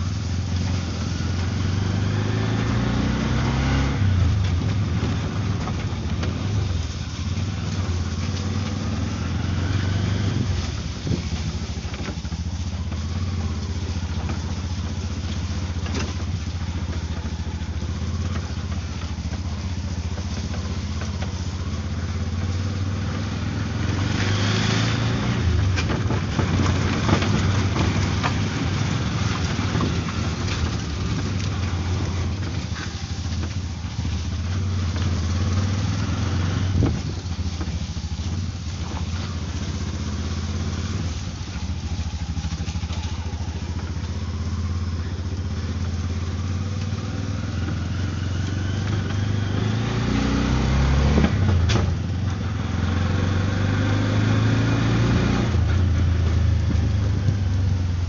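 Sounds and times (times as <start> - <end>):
auto rickshaw engine running: 0.0 - 58.0.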